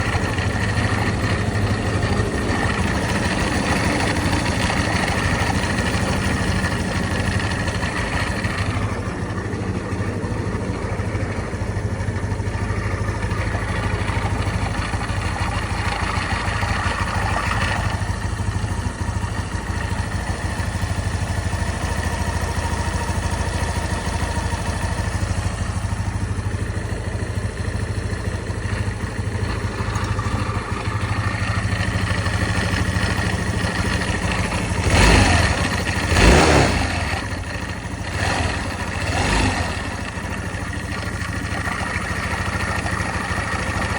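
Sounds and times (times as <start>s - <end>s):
scooter engine idling: 0.0s - 43.9s.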